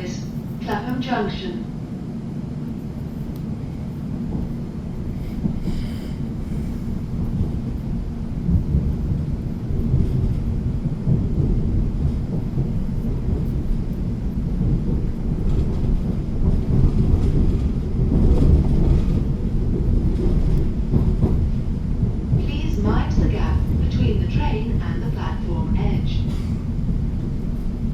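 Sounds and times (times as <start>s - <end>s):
train rumbling along track: 0.0s - 27.9s.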